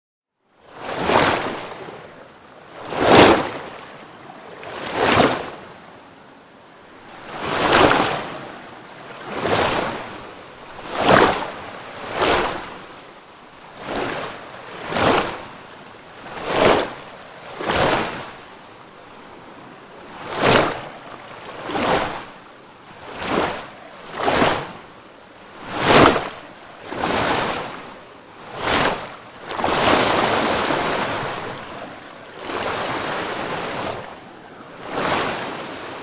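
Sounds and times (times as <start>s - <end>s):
ocean waves crashing: 0.7s - 6.0s, 6.9s - 36.0s.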